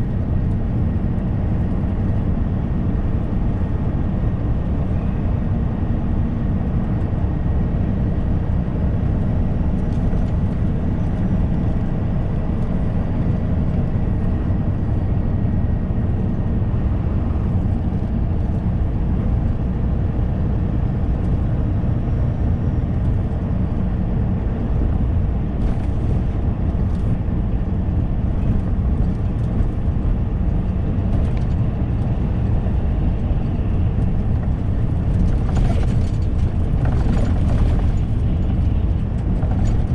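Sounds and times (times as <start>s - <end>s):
road noise: 0.0s - 39.9s
truck engine rumble: 0.0s - 39.9s.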